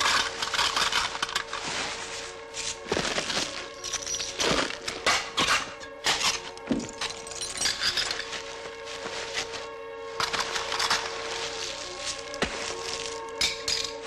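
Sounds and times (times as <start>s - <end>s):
crunching and crackling: 0.0s - 14.0s.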